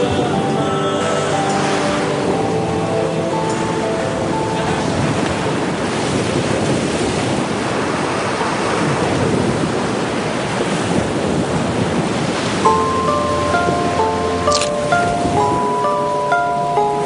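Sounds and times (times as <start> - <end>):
sea waves on shore: 0.0 - 17.0
wind: 0.0 - 17.0.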